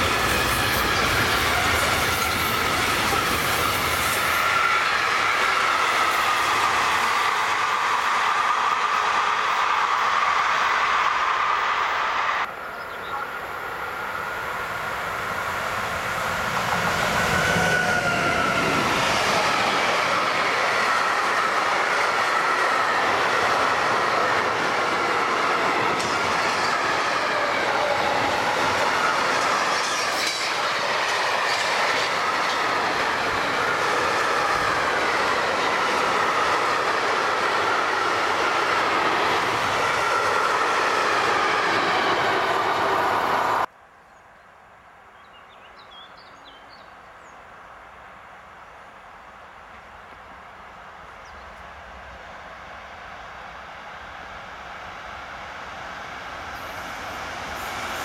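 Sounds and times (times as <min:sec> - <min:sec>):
train wheels rumbling on rail: 0:00.0 - 0:12.1, 0:13.8 - 0:43.7, 0:49.5 - 0:58.0.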